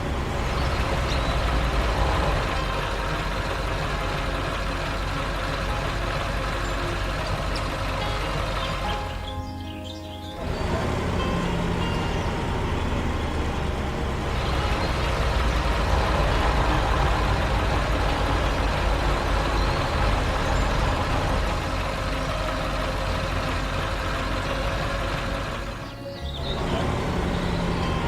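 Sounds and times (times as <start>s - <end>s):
heavy vehicle engine rumbling: 0.0s - 28.0s.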